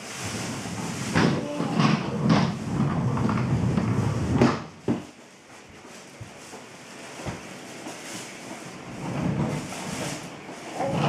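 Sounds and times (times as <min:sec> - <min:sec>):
chair legs scraping wooden floor: 0:00.0 - 0:05.1, 0:06.5 - 0:11.0.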